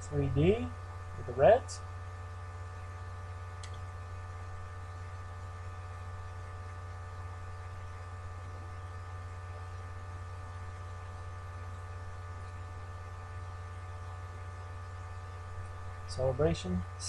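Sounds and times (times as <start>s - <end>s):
electrical hum and buzz: 0.0s - 17.0s.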